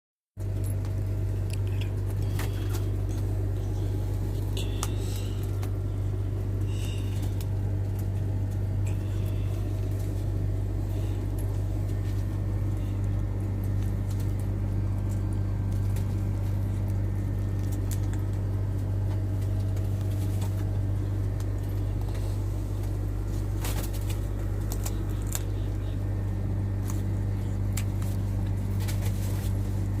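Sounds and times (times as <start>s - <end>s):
low mechanical hum: 0.4s - 30.0s.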